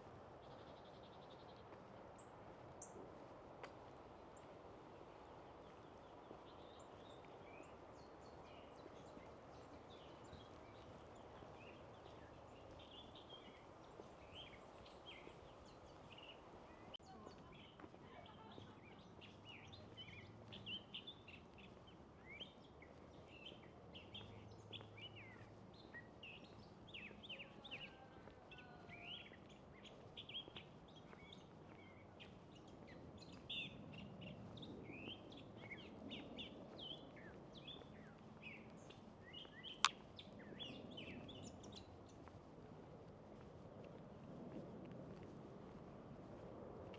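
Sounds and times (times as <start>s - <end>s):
faint songbirds chirping: 0.3s - 3.0s, 4.2s - 44.0s.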